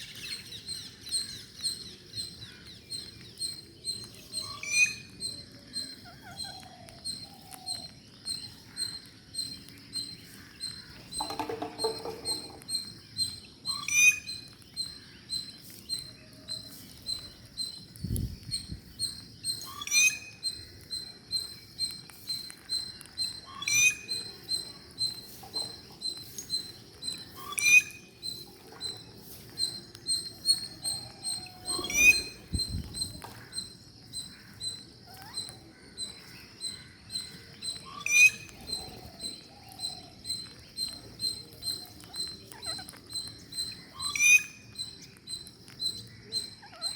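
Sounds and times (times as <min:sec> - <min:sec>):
parrot chirping: 0:03.4 - 0:14.5, 0:19.1 - 0:20.6, 0:21.4 - 0:46.9.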